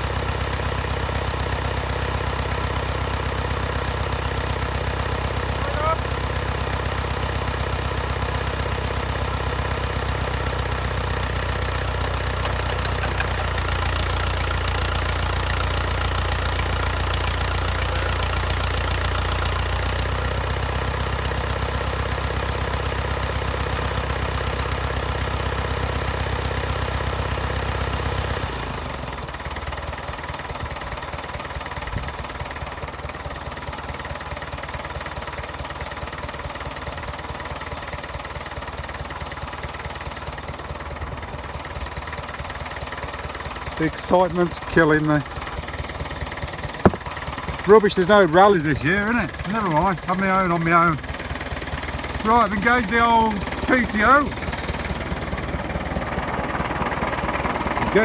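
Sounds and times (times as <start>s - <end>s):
diesel engine clattering: 0.0s - 58.0s.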